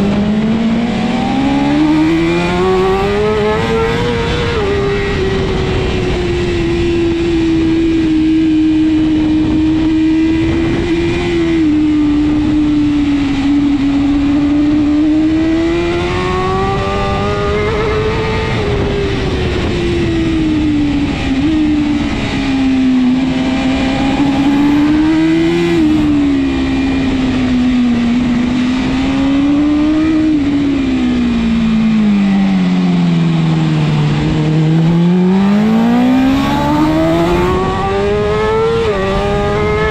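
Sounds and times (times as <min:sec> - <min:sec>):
motorcycle engine at racing speed: 0:00.0 - 0:39.9.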